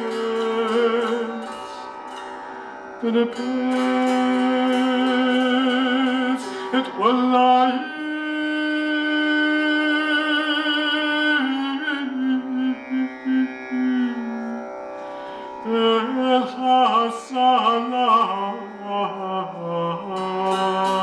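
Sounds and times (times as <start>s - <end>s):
man singing ornamented melody: 0.0s - 21.0s
plucked lute notes: 0.0s - 21.0s.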